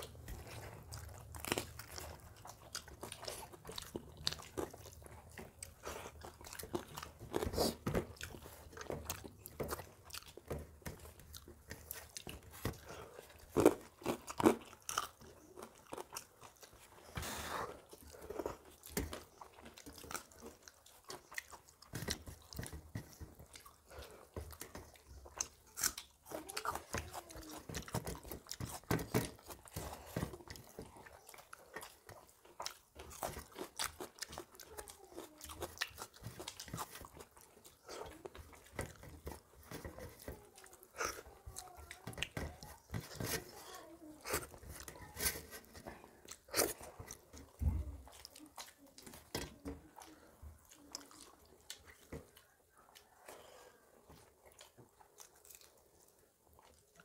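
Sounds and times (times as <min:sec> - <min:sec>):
chewing and lip-smacking: 0:00.0 - 0:57.0.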